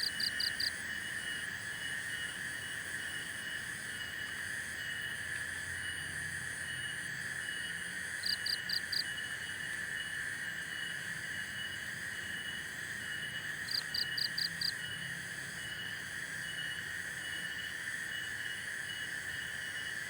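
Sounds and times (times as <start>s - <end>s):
insect drone: 0.0s - 20.0s.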